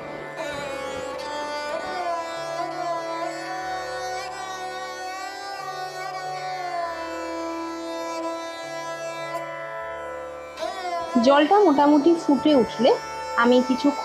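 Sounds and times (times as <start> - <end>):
instrumental music with sliding melody: 0.0 - 14.0.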